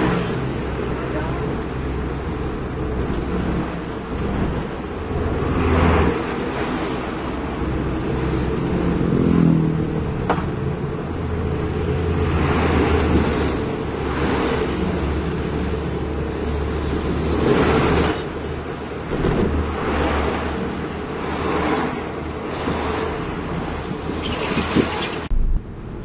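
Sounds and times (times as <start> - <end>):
passing traffic whoosh: 0.0 - 26.0
vehicle engine hum: 0.0 - 26.0.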